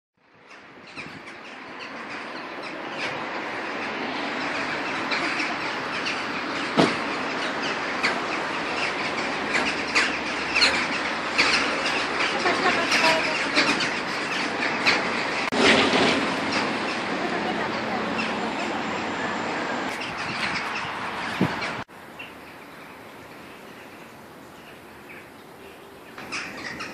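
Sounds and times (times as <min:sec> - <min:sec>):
steady background noise: 0:00.2 - 0:26.9
crows calling: 0:00.4 - 0:15.5, 0:19.9 - 0:26.9.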